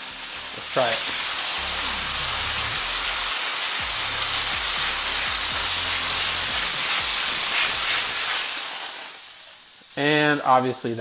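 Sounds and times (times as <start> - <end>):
steam cleaner hissing: 0.0 - 11.0.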